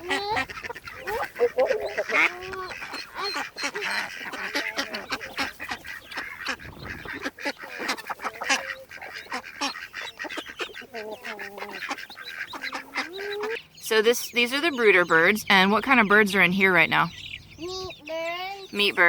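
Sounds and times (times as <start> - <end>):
ducks quacking: 0.0 - 19.0
geese honking: 0.0 - 19.0.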